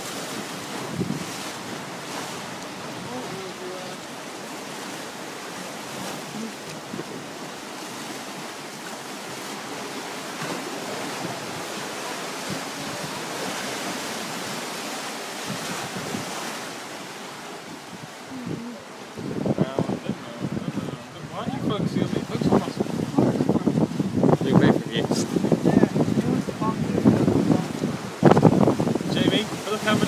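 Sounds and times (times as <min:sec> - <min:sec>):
white water rushing: 0:00.0 - 0:30.0.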